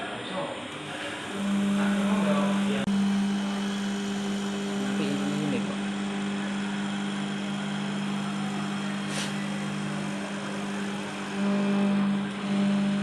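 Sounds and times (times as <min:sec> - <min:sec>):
router spindle humming: 0:00.6 - 0:13.0.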